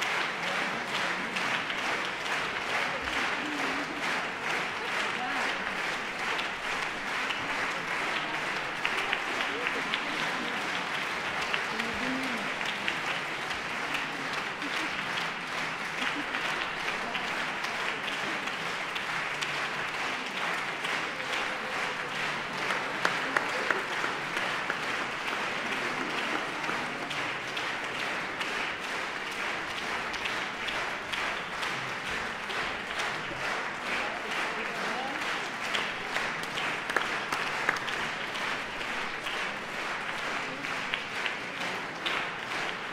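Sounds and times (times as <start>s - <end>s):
audience applauding: 0.0s - 42.9s.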